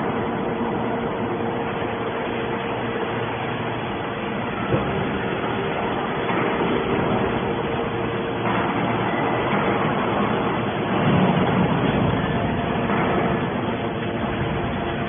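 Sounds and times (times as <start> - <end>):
hydraulic baler machine hum: 0.0 - 15.0.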